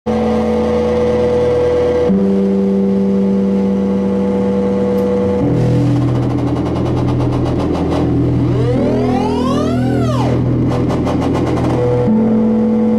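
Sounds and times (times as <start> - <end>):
electronic drone music: 0.1 - 12.9.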